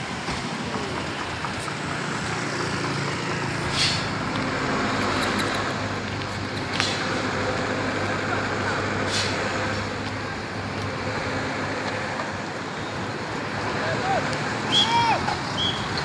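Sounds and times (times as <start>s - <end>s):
cars driving past: 0.0s - 16.0s
engine hum: 0.0s - 16.0s.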